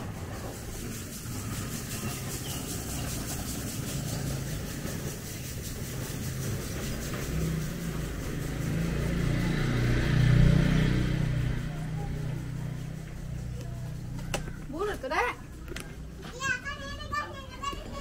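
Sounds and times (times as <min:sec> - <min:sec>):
vehicle engine passing: 0:00.0 - 0:18.0.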